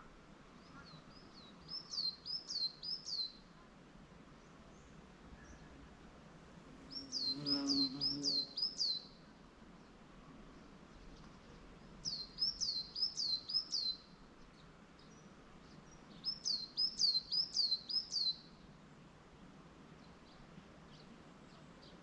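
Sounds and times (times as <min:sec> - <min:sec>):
songbird singing: 0:00.0 - 0:03.6, 0:04.3 - 0:06.1, 0:06.7 - 0:19.1, 0:19.8 - 0:22.0
faint background hiss: 0:00.0 - 0:22.0.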